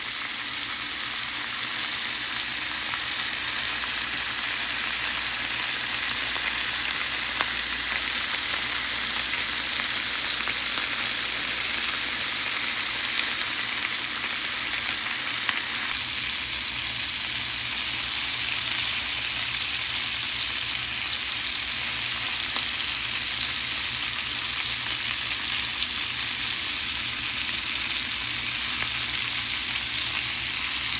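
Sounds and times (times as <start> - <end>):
food frying with crackling sizzle: 0.0 - 30.9.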